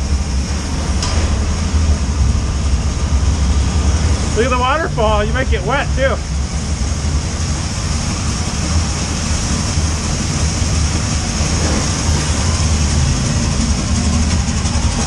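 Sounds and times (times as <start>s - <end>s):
constant low rumble: 0.0s - 15.0s.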